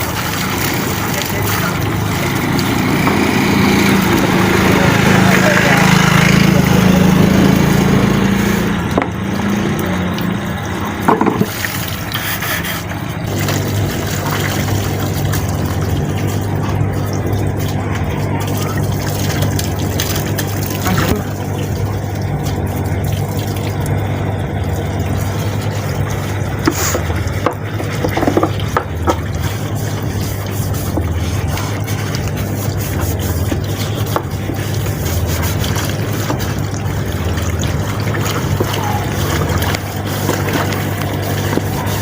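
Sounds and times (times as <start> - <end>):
washing machine motor hum: 0.0 - 42.0
water sloshing in drum: 0.0 - 42.0.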